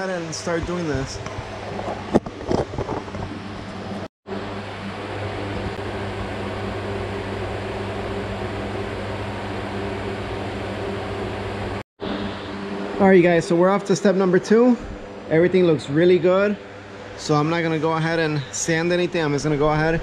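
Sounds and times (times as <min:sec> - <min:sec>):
ventilation fan humming: 0:00.0 - 0:20.0.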